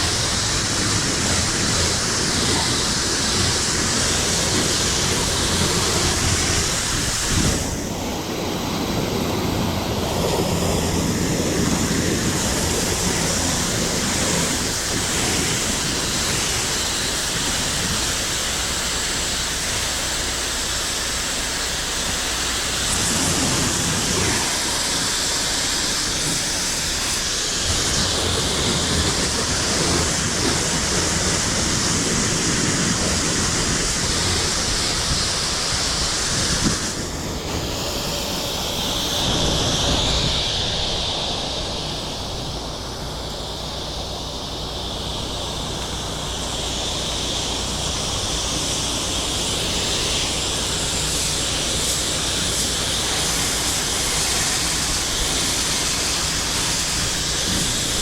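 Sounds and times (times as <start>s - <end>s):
high-pressure water spray hiss: 0.0s - 58.0s
pump motor hum: 0.0s - 58.0s.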